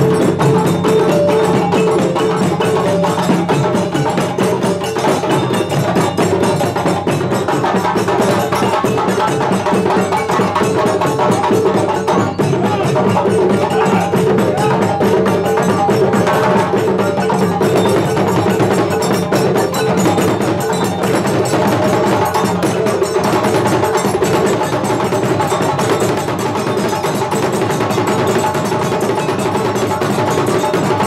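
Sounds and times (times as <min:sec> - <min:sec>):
balafon: 0:00.0 - 0:27.5
hand drums playing dance rhythm: 0:00.0 - 0:31.0.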